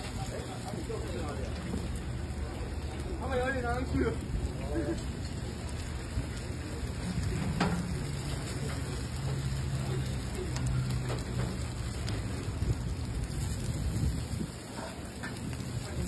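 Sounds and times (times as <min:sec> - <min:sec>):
omelette sizzling on griddle: 0:00.0 - 0:16.0.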